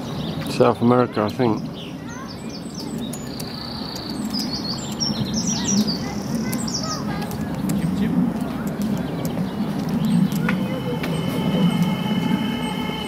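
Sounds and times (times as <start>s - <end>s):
small birds chirping: 0.0s - 13.0s
low background murmur: 0.5s - 13.0s.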